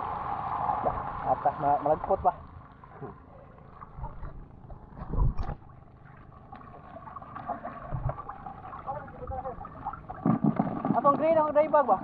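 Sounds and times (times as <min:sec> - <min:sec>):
water sloshing against hull: 0:02.1 - 0:12.0.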